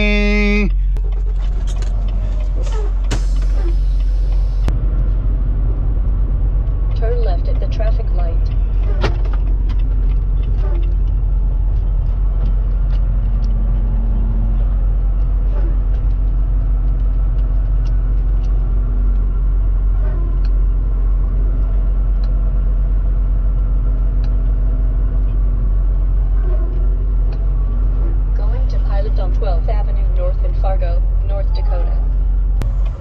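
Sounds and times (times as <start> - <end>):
road noise: 0.0 - 33.0
truck diesel engine drone: 0.0 - 33.0.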